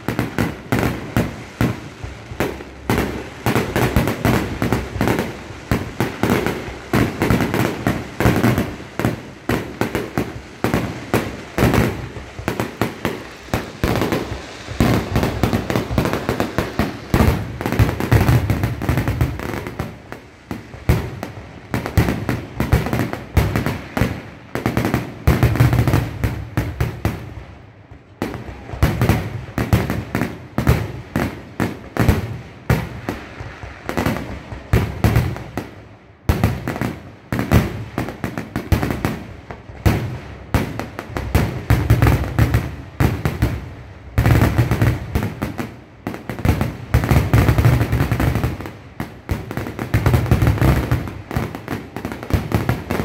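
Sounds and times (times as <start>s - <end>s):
fireworks bangs and crackle: 0.0s - 53.0s.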